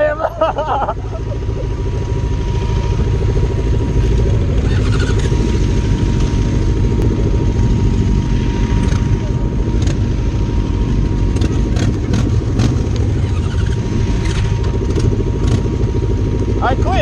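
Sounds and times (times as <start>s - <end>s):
sport bike engines idling: 0.0s - 17.0s.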